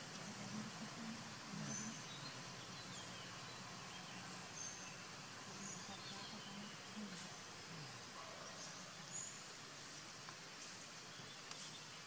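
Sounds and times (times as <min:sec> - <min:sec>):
faint low murmur: 0:00.0 - 0:12.0
steady hiss: 0:00.0 - 0:12.0
faint bird chirps: 0:00.1 - 0:09.6, 0:10.6 - 0:12.0.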